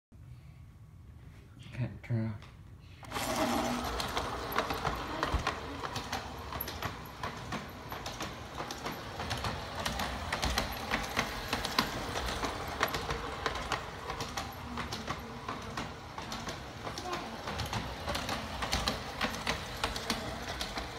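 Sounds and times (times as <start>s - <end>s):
model train wheels clicking: 3.1s - 20.9s.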